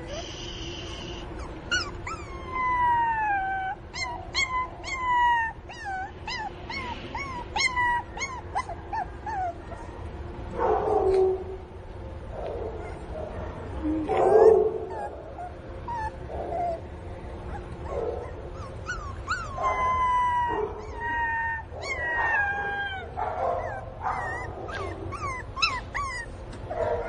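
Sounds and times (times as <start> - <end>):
puppy whining and yelping: 0.0 - 10.0, 12.7 - 13.2, 14.0 - 27.0.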